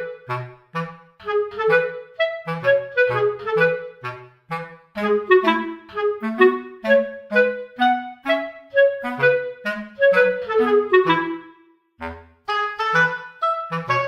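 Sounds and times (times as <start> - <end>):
bouncy background music: 0.0 - 14.0.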